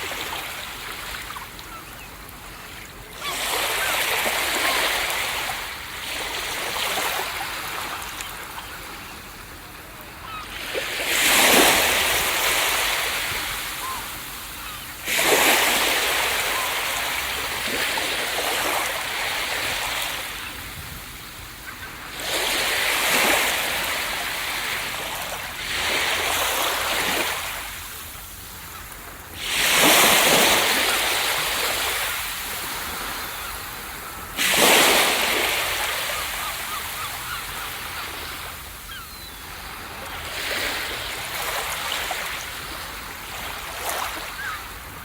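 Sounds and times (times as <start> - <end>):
ocean waves breaking on beach: 0.0 - 45.0.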